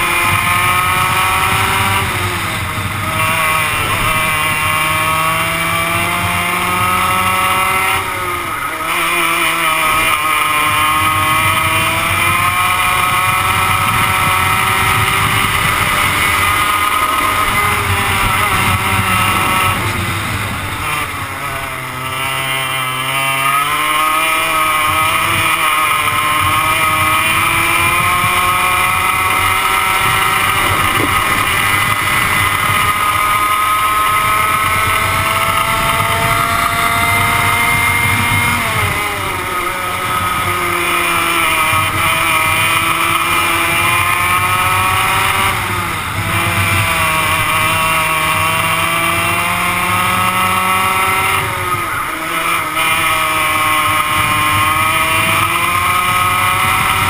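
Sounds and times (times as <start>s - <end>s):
two-stroke kart engine revving: 0.0s - 57.0s.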